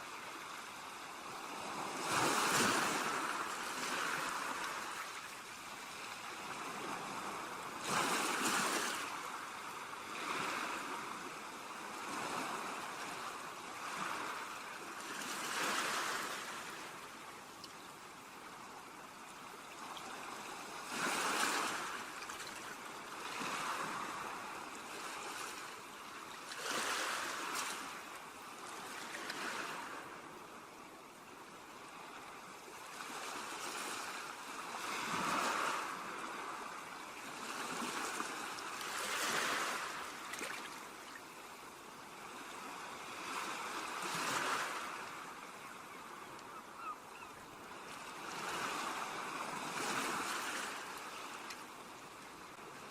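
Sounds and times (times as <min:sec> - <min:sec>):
ocean waves breaking on beach: 0:00.0 - 0:52.9.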